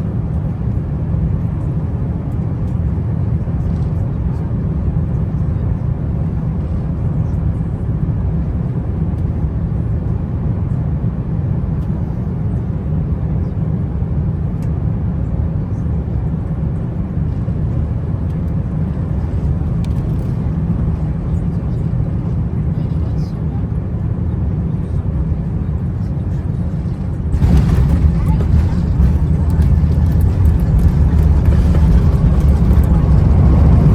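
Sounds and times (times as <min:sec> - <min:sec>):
airliner cabin rumble: 0:00.0 - 0:33.9.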